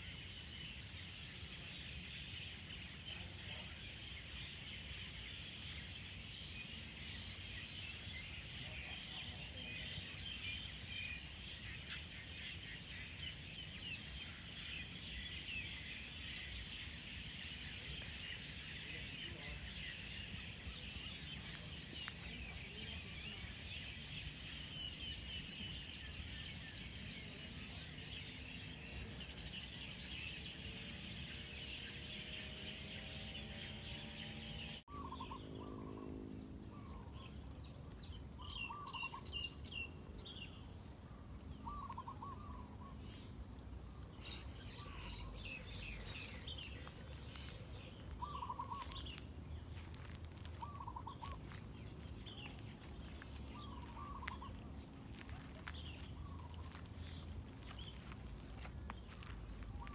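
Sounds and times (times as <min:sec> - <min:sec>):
chorus of birds chirping: 0:00.0 - 0:59.9.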